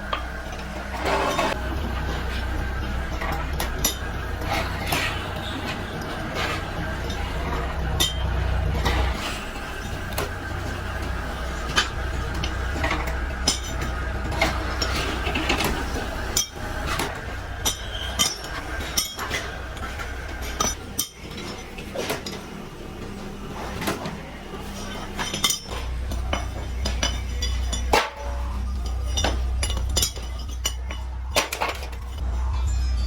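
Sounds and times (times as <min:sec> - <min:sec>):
metal parts clinking and tapping: 0:00.0 - 0:32.2
low machine hum: 0:00.0 - 0:33.0.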